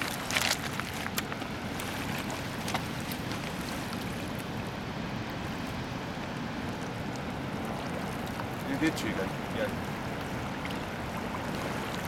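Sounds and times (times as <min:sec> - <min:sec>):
river water rushing: 0:00.0 - 0:12.0
wind: 0:00.0 - 0:12.0.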